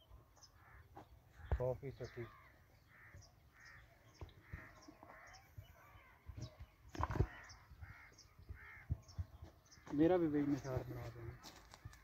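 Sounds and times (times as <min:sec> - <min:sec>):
crows cawing: 0:00.4 - 0:12.0.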